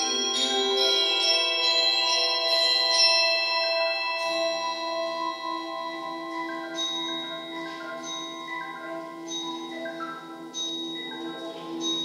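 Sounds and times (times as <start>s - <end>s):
high bell-like note: 0.0s - 12.0s
marimbas playing chords: 0.0s - 12.0s.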